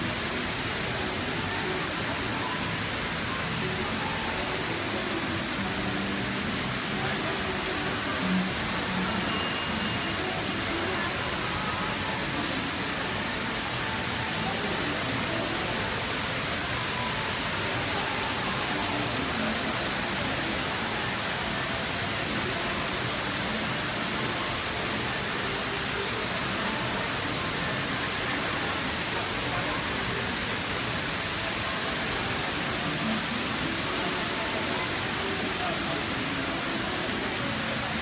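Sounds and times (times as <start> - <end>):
indoor waterfall rushing: 0.0 - 38.0.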